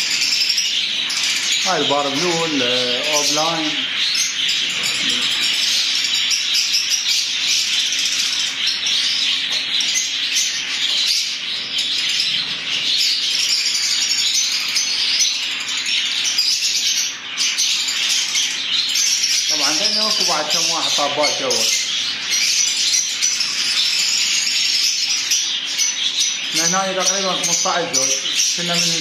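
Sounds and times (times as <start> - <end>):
lovebirds chirping and chattering: 0.0 - 29.0.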